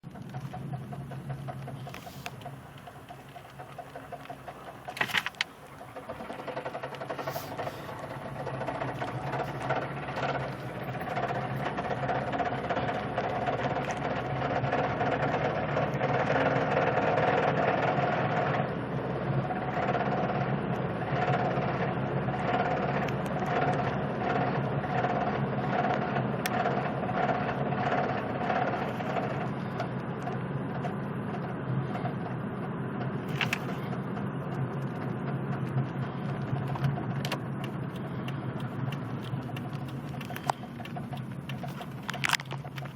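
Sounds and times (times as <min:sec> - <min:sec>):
engine running with rhythmic knocking: 0:00.0 - 0:42.9.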